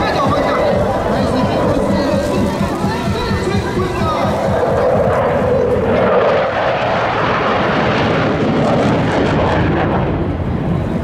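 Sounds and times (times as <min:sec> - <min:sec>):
fighter jet flying overhead: 0:00.0 - 0:11.0.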